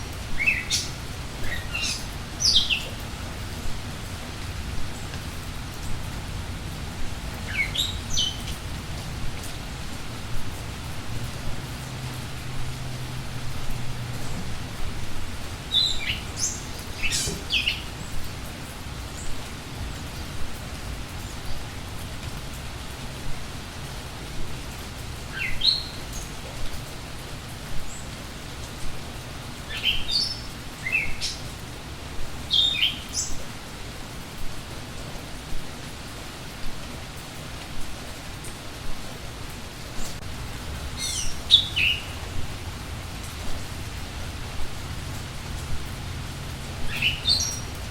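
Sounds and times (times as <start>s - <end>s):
songbirds chirping: 0.0s - 47.9s
steady rain: 0.0s - 47.9s.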